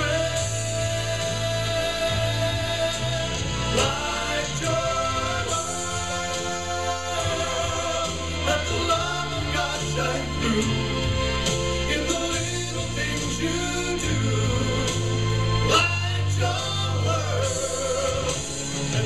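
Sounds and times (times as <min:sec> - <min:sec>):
instrumental backing music: 0:00.0 - 0:19.0
person singing: 0:00.0 - 0:19.0.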